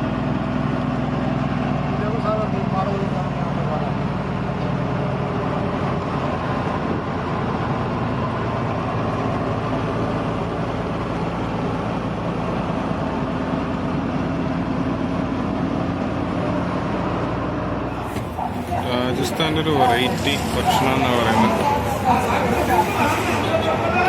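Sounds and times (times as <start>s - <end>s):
road noise: 0.0s - 24.0s
truck engine running: 0.0s - 24.0s.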